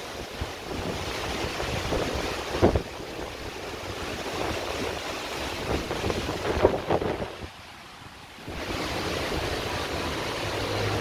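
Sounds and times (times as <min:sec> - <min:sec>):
rain and hail hissing: 0:00.0 - 0:11.0
wind gusts buffeting microphone: 0:00.0 - 0:11.0.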